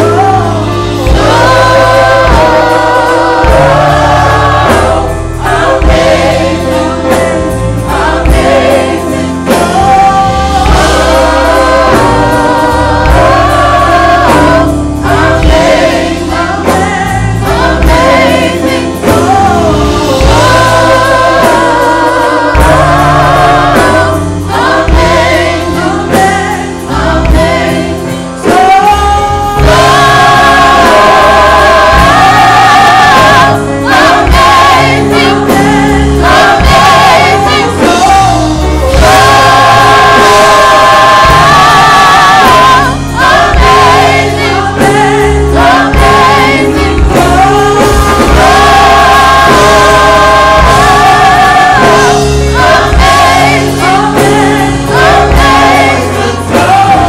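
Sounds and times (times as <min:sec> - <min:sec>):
gospel choir singing: 0:00.0 - 0:57.0
instrumental accompaniment with bass: 0:00.0 - 0:57.0.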